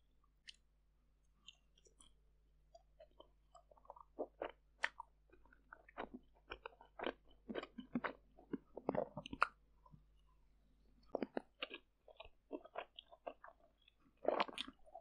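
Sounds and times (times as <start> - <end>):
close chewing with mouth clicks: 1.4 - 10.0, 11.0 - 15.0.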